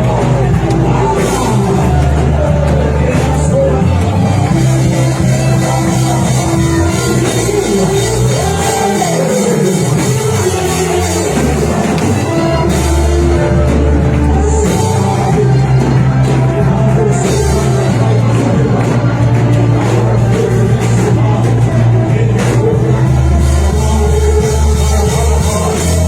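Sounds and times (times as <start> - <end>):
drums: 0.0 - 26.0
held bass notes: 0.0 - 26.0
live worship band music: 0.0 - 26.0
voices singing: 0.0 - 26.0.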